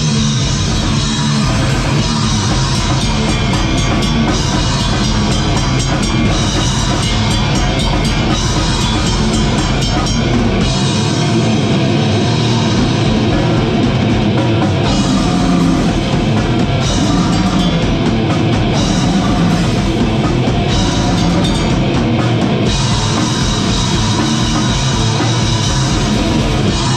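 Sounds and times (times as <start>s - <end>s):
fast drum-kit hits: 0.0s - 26.9s
heavy rock band playing live: 0.0s - 26.9s.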